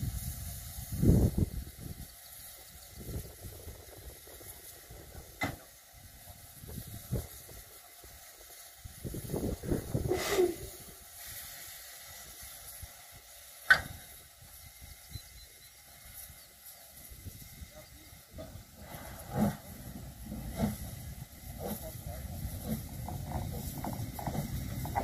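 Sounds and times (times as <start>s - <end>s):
steam locomotive releasing steam: 0.0s - 25.0s.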